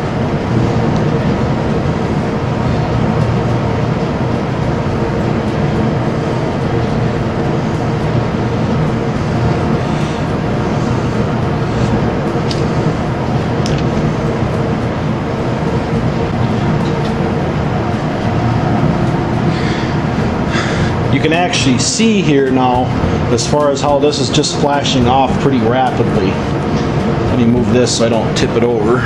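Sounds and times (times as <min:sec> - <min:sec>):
machinery drone: 0:00.0 - 0:29.0.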